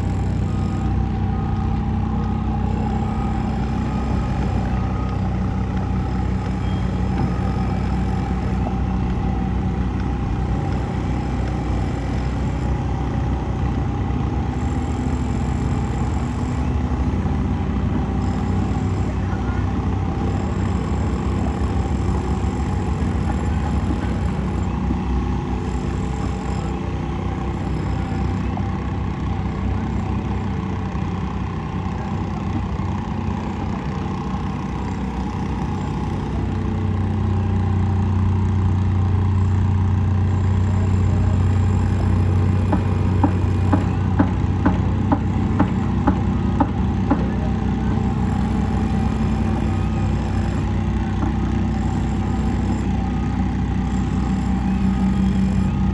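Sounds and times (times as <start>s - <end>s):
engine humming: 0.0s - 55.9s.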